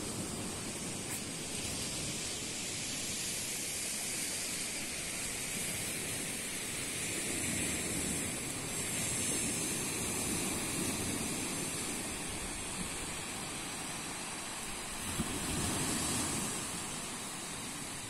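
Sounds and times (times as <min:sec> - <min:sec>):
surf washing on beach: 0:00.0 - 0:18.0.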